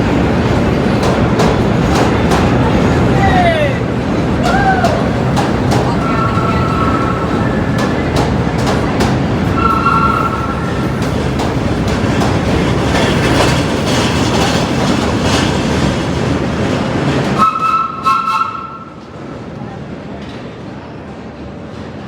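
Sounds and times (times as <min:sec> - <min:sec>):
subway train rumble and clatter: 0:00.0 - 0:22.0.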